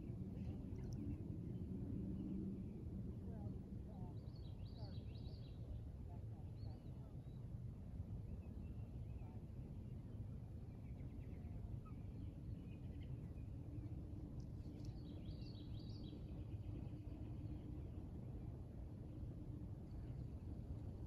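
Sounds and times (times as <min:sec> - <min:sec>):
faint steady hum: 0:00.0 - 0:21.0
low outdoor rumble: 0:00.0 - 0:21.0.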